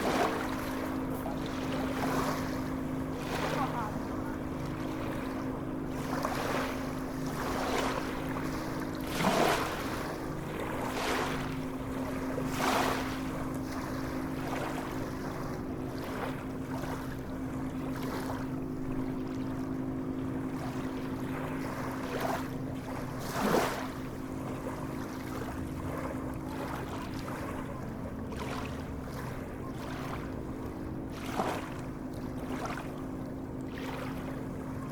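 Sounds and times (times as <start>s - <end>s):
sea waves splashing: 0.0s - 34.9s
steady low hum: 0.0s - 34.9s.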